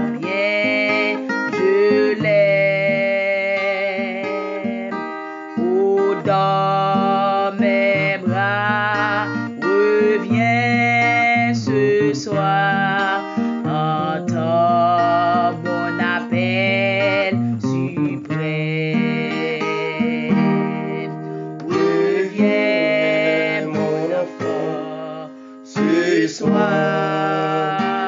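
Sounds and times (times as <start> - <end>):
guitar background music: 0.0 - 28.0.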